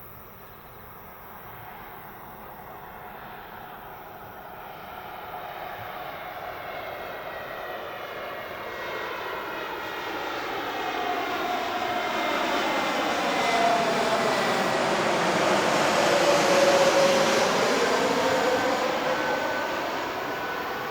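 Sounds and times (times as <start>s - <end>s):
jet engine drone: 0.0s - 20.9s.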